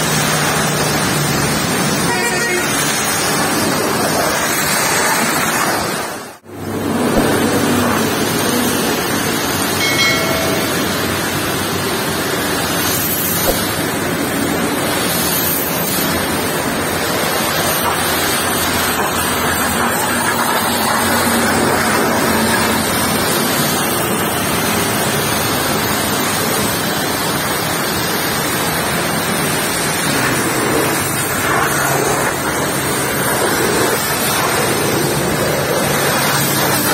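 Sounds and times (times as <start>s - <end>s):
pressure washer spraying metal: 0.0s - 36.9s.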